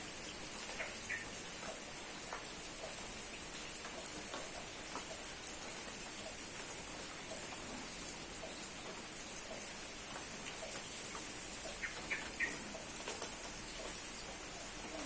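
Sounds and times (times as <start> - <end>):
steady rain falling: 0.0 - 15.0
drips ticking: 0.1 - 15.0.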